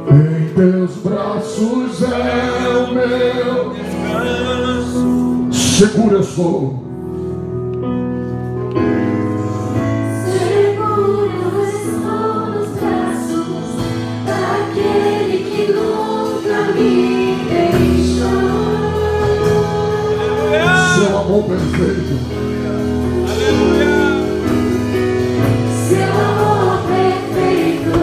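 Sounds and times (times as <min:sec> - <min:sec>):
congregation singing: 0:00.0 - 0:05.8, 0:09.7 - 0:28.0.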